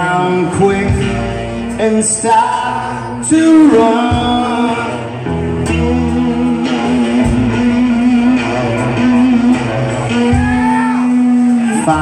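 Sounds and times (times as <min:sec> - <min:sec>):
bass line: 0:00.0 - 0:12.0
electric guitar: 0:00.0 - 0:12.0
person singing: 0:00.0 - 0:12.0.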